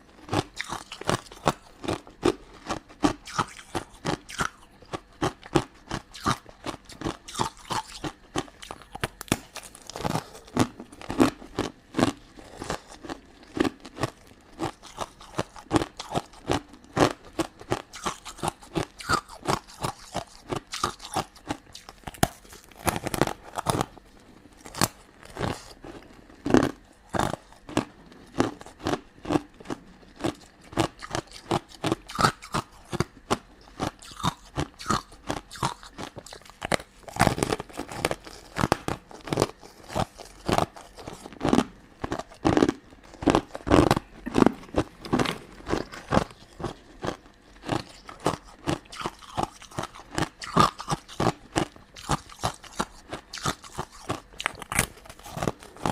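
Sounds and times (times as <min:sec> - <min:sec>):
crunching and chewing sweets: 0:00.0 - 0:55.9.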